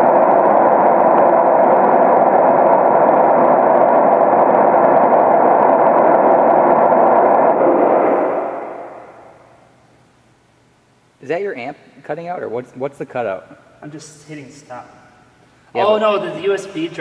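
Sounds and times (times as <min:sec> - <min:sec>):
test noise hiss through speaker: 0:00.0 - 0:17.0.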